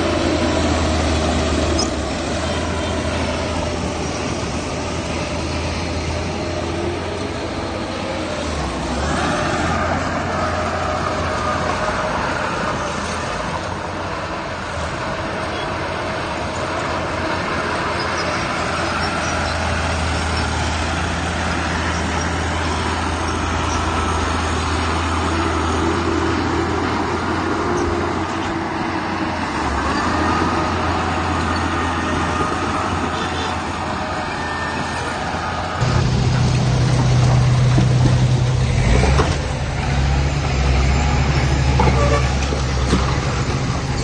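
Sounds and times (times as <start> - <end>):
heavy machinery diesel engines: 0.0 - 44.0.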